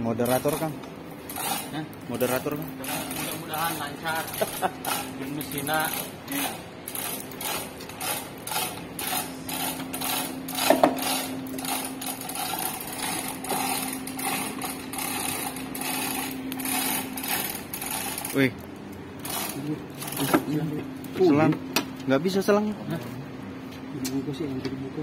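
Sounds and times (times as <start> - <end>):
rhythmic mechanical clattering: 0.0 - 22.7
steady hum: 0.0 - 25.0.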